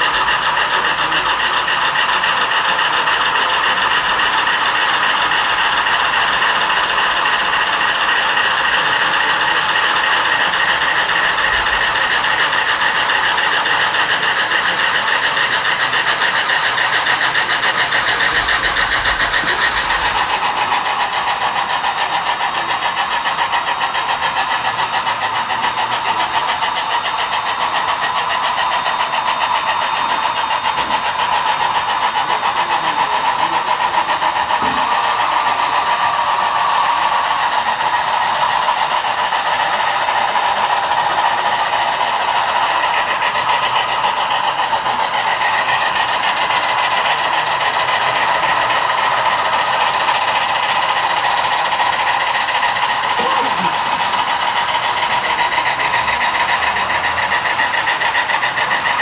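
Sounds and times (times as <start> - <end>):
model train rattling whir: 0.0 - 59.0.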